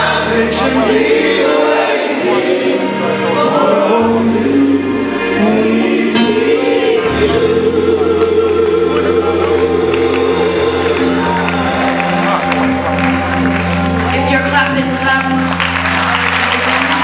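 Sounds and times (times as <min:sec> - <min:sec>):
gospel choir singing: 0:00.0 - 0:13.9
instrumental accompaniment: 0:00.0 - 0:17.0.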